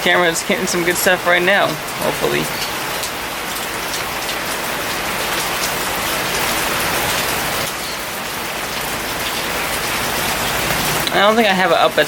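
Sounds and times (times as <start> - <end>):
heavy rain pattering: 0.0 - 12.0
raindrops ticking near microphone: 0.0 - 12.0.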